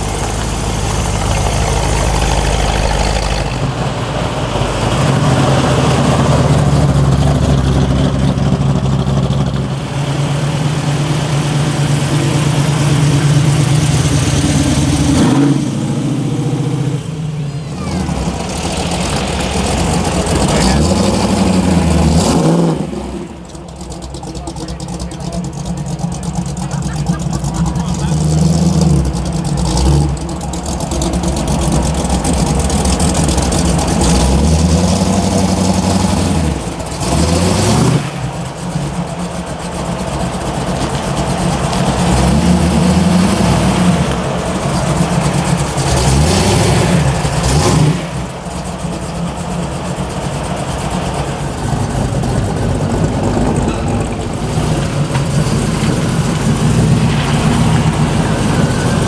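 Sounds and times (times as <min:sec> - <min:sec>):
car engines rumbling and revving: 0:00.0 - 0:59.0.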